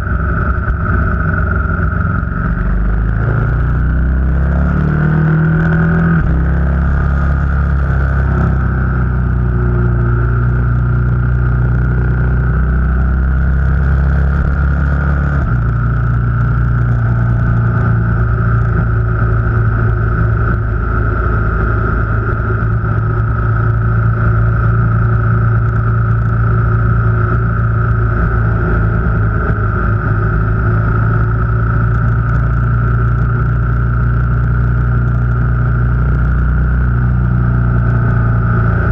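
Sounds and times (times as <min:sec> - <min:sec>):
car engine droning: 0:00.0 - 0:38.9
road noise: 0:00.0 - 0:38.9.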